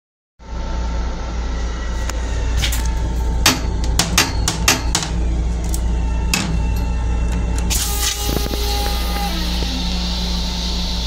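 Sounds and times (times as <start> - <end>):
electric railcar rumbling: 0.4 - 11.0.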